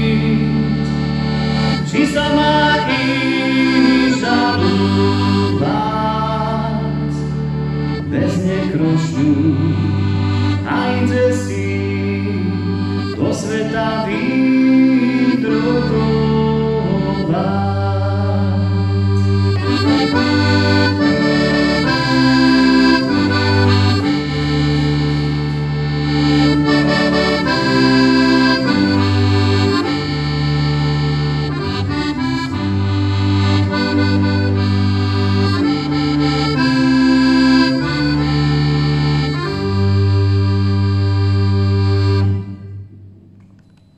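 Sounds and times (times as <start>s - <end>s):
piano accordion folk tune: 0.0s - 43.1s.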